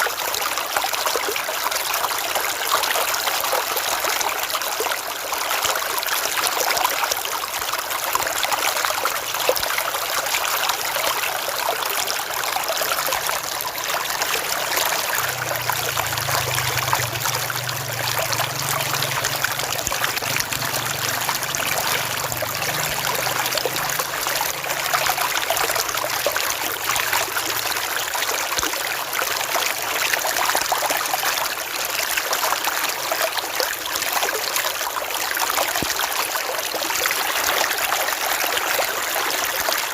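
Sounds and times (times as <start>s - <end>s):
river water rushing: 0.1s - 39.9s.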